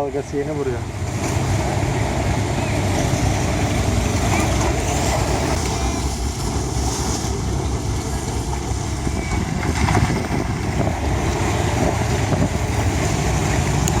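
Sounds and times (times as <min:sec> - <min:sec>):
wake waves reaching shore: 0:00.0 - 0:14.0
wind buffeting microphone: 0:00.4 - 0:14.0.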